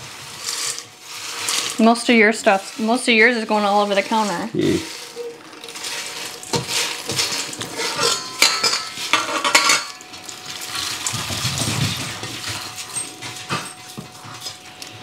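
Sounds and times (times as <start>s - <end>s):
dry vegetable pieces rattling: 0.4s - 12.7s.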